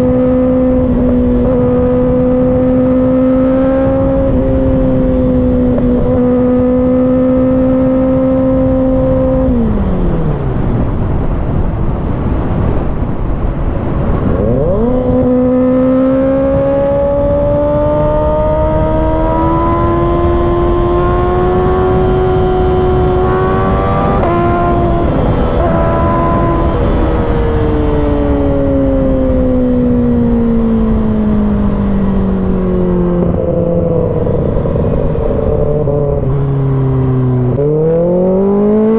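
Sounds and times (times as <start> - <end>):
motorcycle engine: 0.0 - 38.9
wind rush: 0.0 - 38.9.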